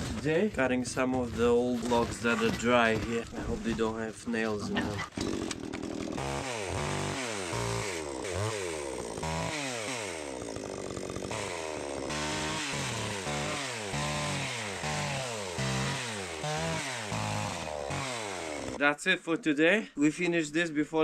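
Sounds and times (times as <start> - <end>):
chainsaw cutting logs: 0.0 - 18.9.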